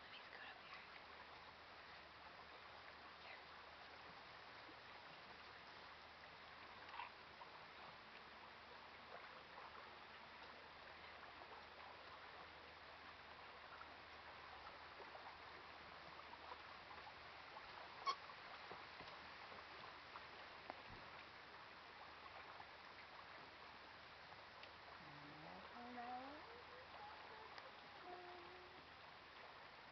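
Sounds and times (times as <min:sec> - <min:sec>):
faint hiss of lake water: 0:00.0 - 0:29.9.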